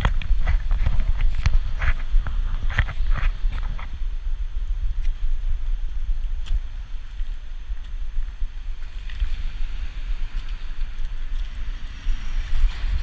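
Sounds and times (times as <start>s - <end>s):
fluttering wind rumble on microphone: 0.0s - 13.0s.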